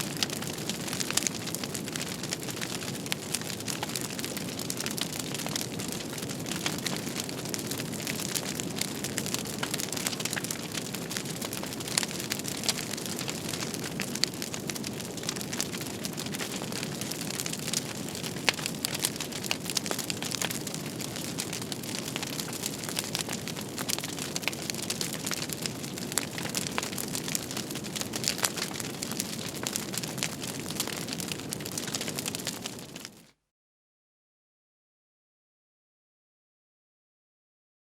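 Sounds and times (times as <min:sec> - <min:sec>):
fireplace crackling and popping: 0:00.0 - 0:33.3.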